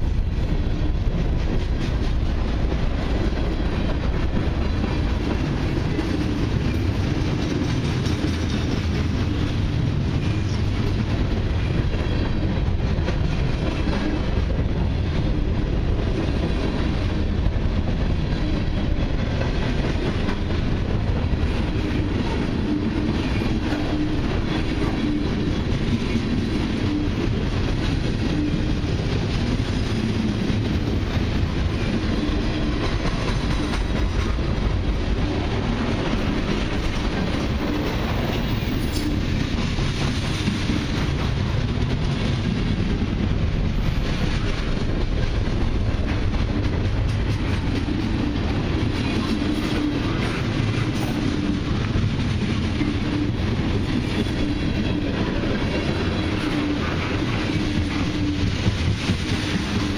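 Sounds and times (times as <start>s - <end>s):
freight train rolling past: 0.0s - 59.9s
train wheel clicks: 0.0s - 59.9s.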